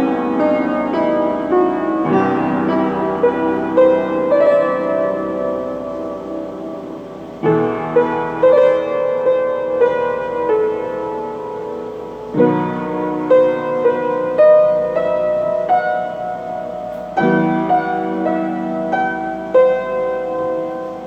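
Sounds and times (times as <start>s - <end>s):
slow gentle piano: 0.0s - 21.0s.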